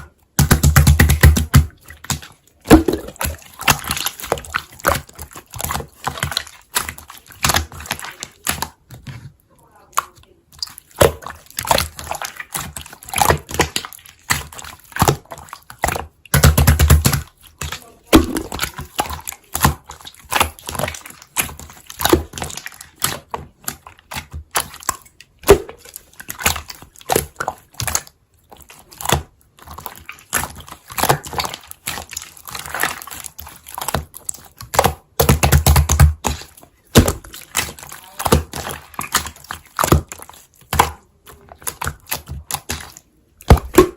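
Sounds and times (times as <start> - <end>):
deep slime squelches: 0.0 - 43.9.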